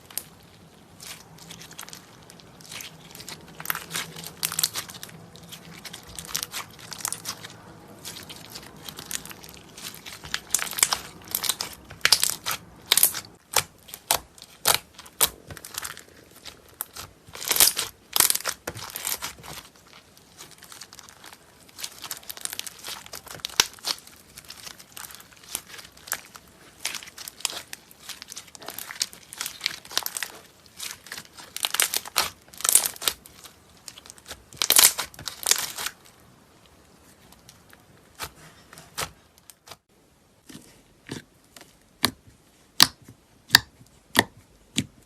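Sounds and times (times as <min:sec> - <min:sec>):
slime crackling by hand: 0:00.0 - 0:45.0.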